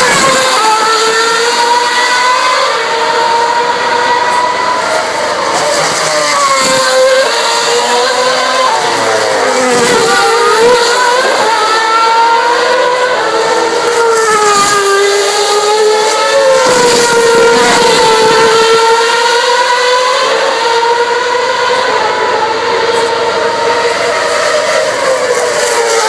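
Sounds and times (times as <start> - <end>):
racing car engines at high revs: 0.0 - 26.0.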